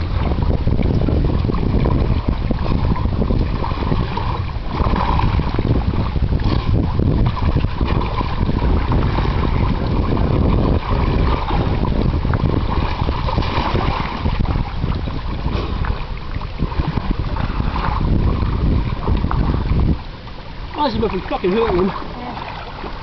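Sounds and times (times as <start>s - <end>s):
sea water splashing: 0.0s - 23.0s
wind buffeting microphone: 0.0s - 23.0s.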